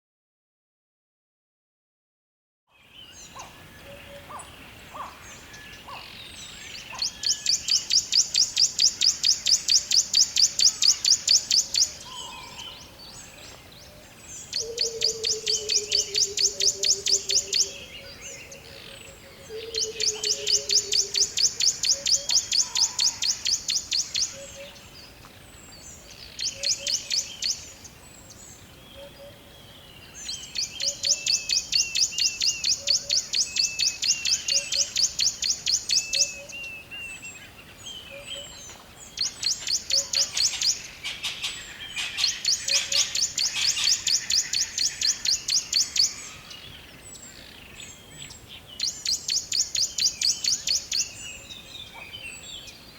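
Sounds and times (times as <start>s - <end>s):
bird chirps: 2.7s - 52.9s.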